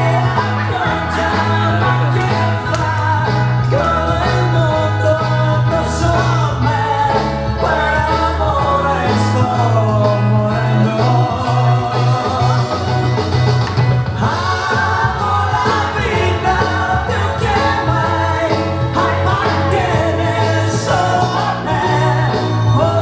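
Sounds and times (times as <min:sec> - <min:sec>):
pop song with singing voice: 0:00.0 - 0:23.0
repeating bass line: 0:00.0 - 0:23.0.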